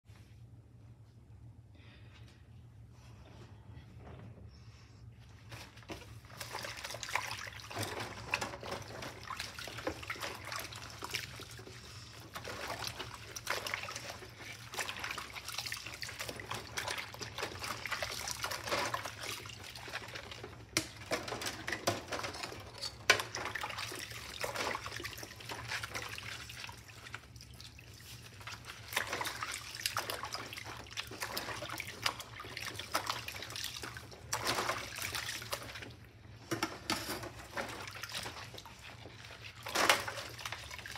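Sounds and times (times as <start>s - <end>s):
soapy water sloshing in sink: 5.2s - 40.9s.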